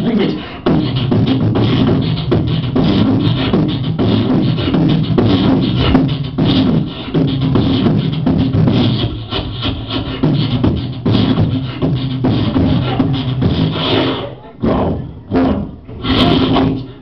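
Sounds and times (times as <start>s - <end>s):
person beatboxing into a microphone: 0.0s - 17.0s.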